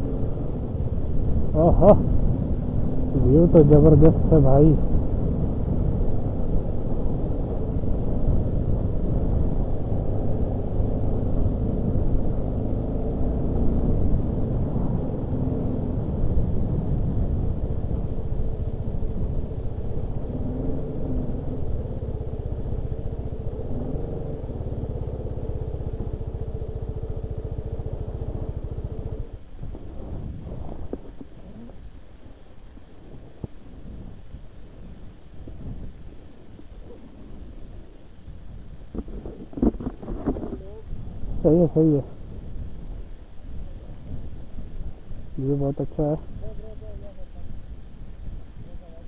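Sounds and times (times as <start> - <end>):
motorcycle engine rumbling: 0.0 - 49.0.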